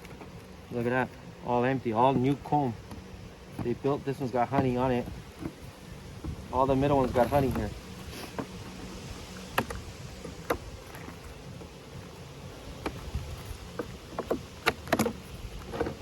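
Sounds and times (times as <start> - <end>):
low steady rumble: 0.0 - 16.0
wooden beehive frames clicking: 1.8 - 16.0.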